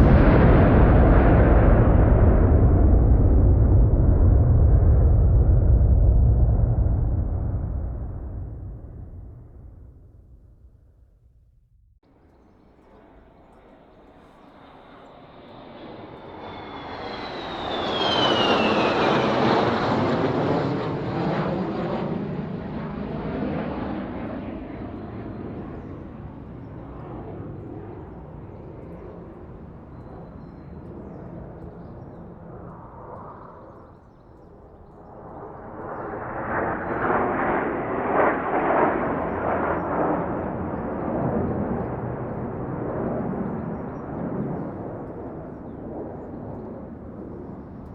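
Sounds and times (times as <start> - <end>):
fighter jet flying past: 0.0 - 10.7, 12.2 - 47.9
jet roar crackling: 0.0 - 10.7, 12.9 - 33.7, 34.6 - 47.9.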